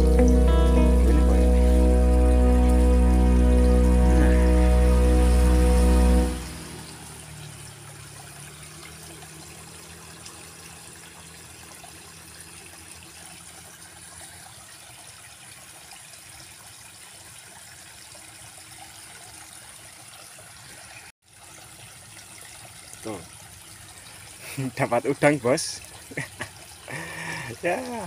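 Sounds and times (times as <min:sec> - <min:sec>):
water trickling in a ditch: 0:00.0 - 0:28.0.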